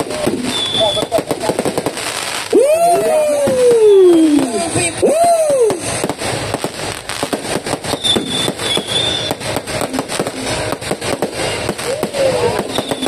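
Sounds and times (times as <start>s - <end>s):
firework shells bursting and crackling: 0.0s - 13.0s
high firework whistle: 0.0s - 13.0s.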